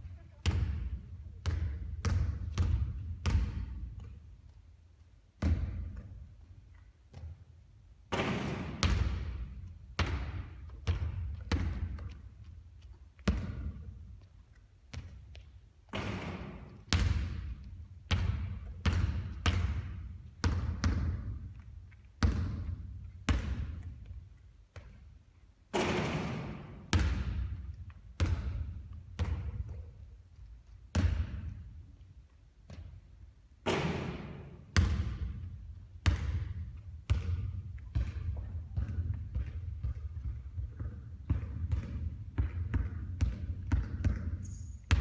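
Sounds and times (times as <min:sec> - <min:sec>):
basketball bouncing on court: 0:00.0 - 0:04.4, 0:05.4 - 0:14.2, 0:14.9 - 0:45.0.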